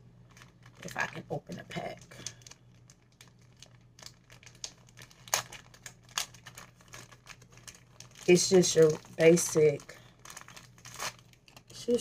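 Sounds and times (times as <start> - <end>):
plastic packet crinkling: 0.2 - 12.0.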